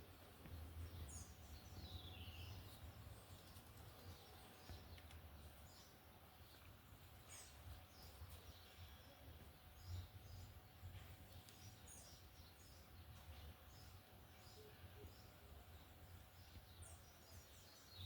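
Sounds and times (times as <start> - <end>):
faint bird chirps: 0.9 - 18.0.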